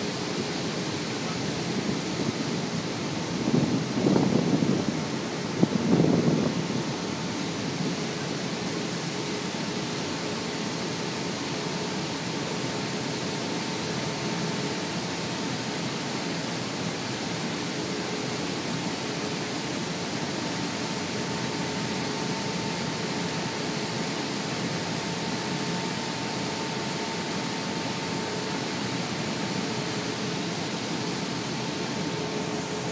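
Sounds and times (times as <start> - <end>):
boat engine drone: 0.0 - 32.9
water churning in boat wake: 0.0 - 32.9.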